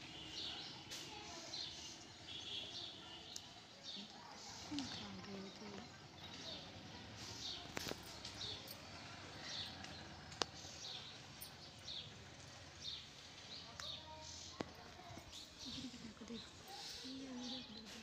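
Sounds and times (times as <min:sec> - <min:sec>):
faint bird chirping: 0:00.1 - 0:18.0.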